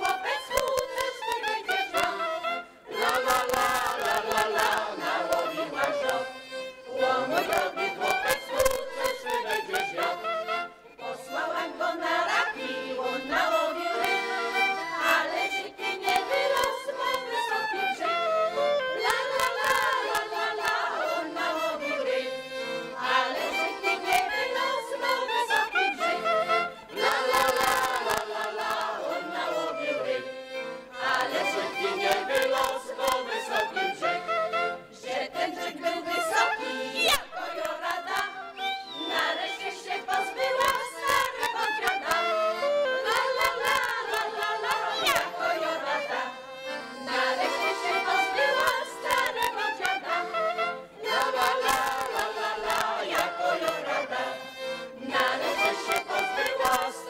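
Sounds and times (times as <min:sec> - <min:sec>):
women's choir singing folk song: 0:00.0 - 0:57.0.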